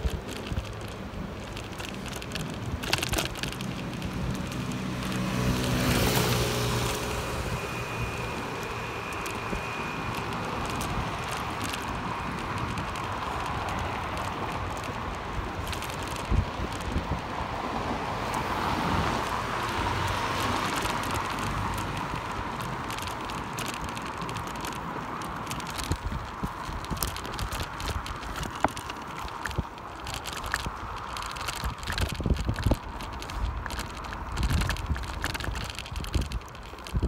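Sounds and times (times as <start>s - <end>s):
bicycle rattles and clicks: 0.0s - 37.0s
wind rushing over microphone: 0.0s - 37.0s.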